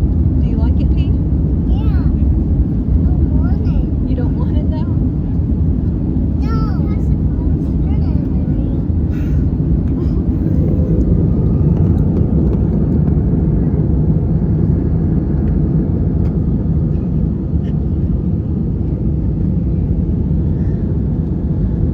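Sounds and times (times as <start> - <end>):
jet cabin engine roar: 0.0 - 21.9.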